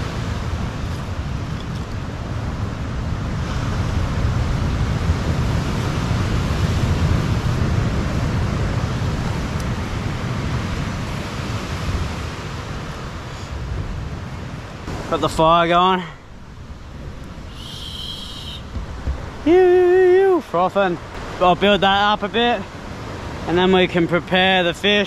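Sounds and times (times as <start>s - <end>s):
wind buffeting microphone: 0.0s - 24.0s
surf washing: 0.0s - 25.0s.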